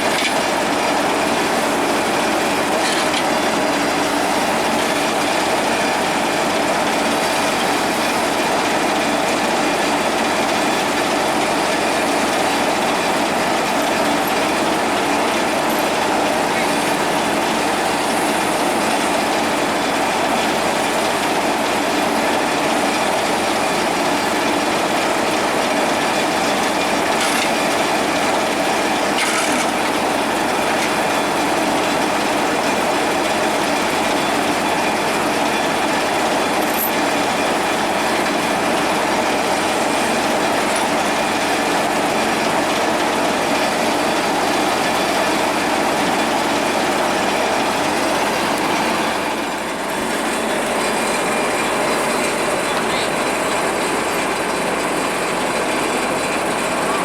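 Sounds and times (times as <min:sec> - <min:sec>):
heavy diesel machinery drone: 0:00.0 - 0:57.0.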